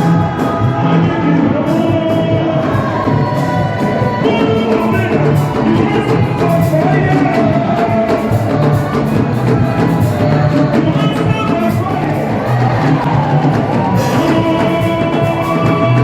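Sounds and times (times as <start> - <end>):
drums and percussion: 0.0 - 16.0
voices singing: 0.0 - 16.0.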